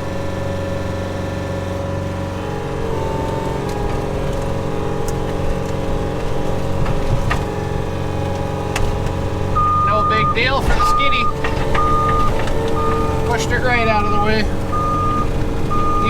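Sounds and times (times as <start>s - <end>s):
loader engine running hard: 0.0s - 16.0s
wood cracking: 2.8s - 16.0s.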